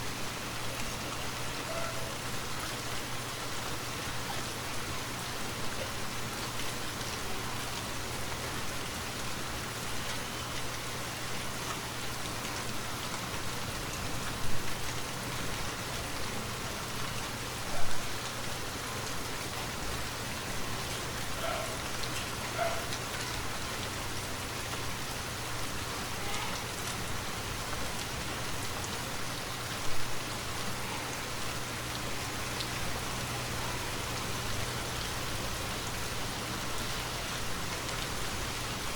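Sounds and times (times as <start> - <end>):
rain on foliage: 0.0 - 38.9.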